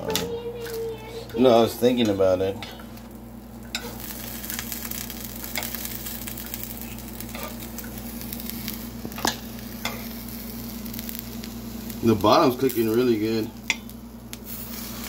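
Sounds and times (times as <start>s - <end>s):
pizza sizzling in frying pan: 0.0s - 15.0s.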